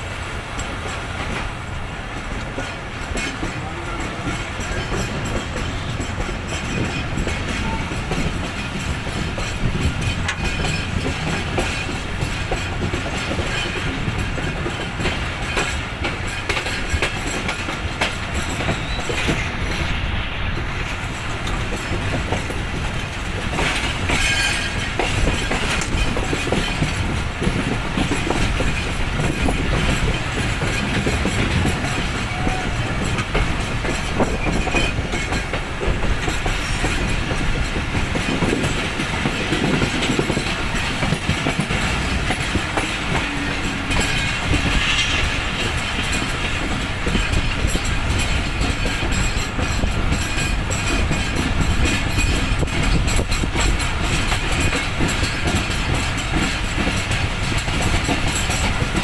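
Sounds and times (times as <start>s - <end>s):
train wheels clattering over rail joints: 0.0s - 59.0s.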